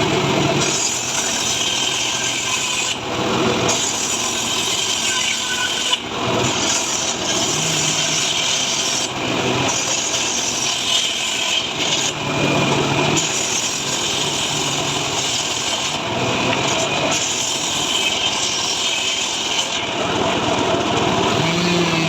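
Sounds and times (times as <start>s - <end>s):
petrol saw cutting wood: 0.0s - 22.0s.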